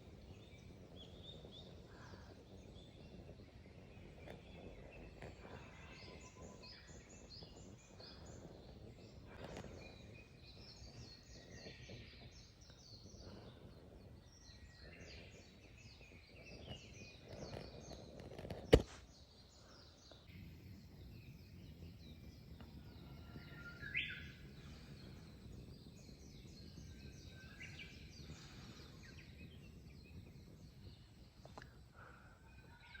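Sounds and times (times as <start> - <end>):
small birds chirping and singing: 0.0 - 33.0.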